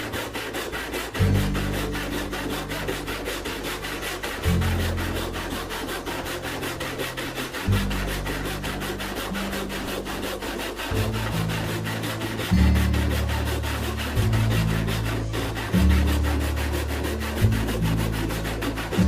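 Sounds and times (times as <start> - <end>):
hand saw rasping through wood: 0.0 - 19.0
low background music: 0.0 - 19.0.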